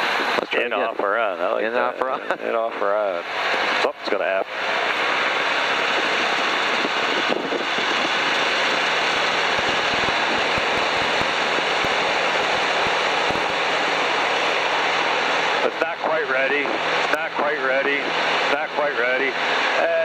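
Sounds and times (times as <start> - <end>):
airplane engine and propeller: 0.0 - 20.0.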